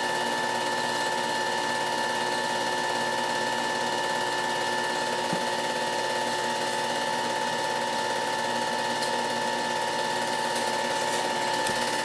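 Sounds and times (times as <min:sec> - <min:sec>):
film projector whirring clatter: 0:00.0 - 0:12.0.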